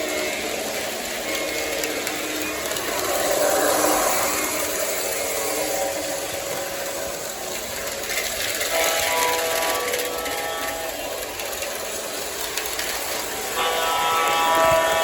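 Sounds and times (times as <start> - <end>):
model train motor whining: 0.0 - 15.0.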